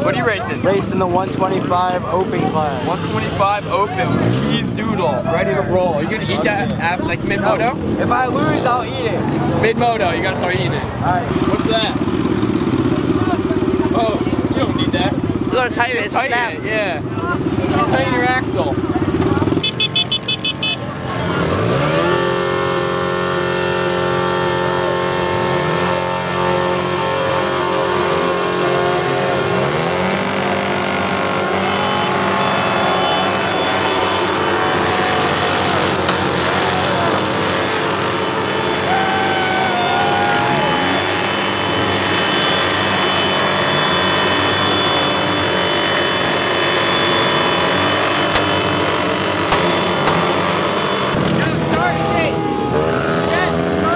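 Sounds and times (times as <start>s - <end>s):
pit bike engines running: 0.0s - 53.9s
engine revving high: 1.4s - 15.4s, 20.8s - 53.9s.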